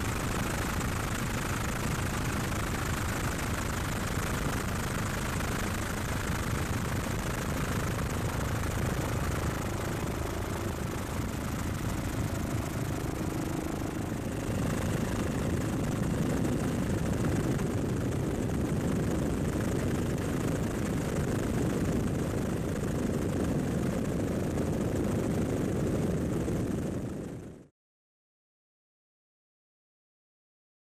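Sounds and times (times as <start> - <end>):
helicopter engine and rotor noise: 0.0 - 27.7.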